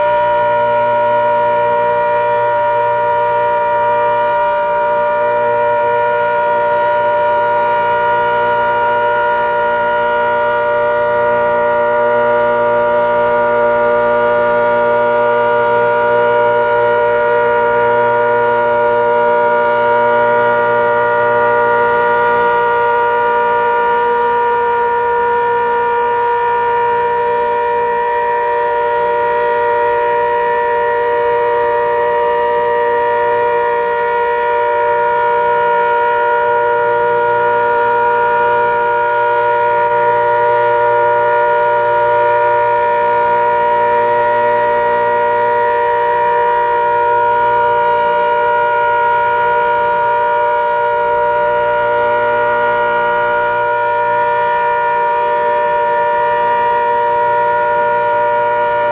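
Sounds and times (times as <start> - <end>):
outdoor warning siren: 0.0 - 58.9.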